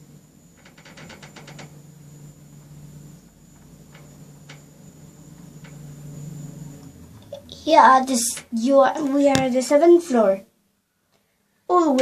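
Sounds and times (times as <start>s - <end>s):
lift low hum: 0.0s - 10.0s.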